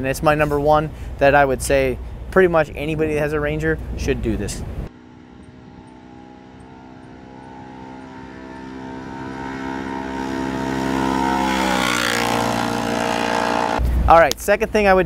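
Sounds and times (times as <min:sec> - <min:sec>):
utility vehicle engines droning: 0:00.0 - 0:14.1.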